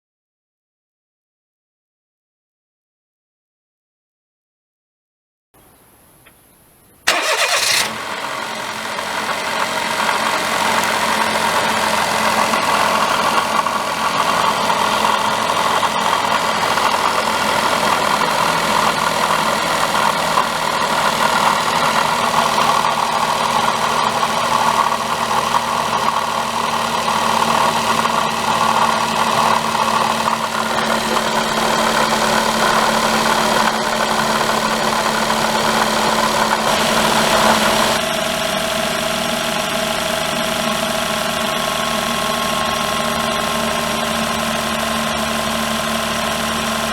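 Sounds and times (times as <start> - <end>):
car engine starting and idling: 7.0 - 46.9
water pump abnormal noise: 7.1 - 46.9.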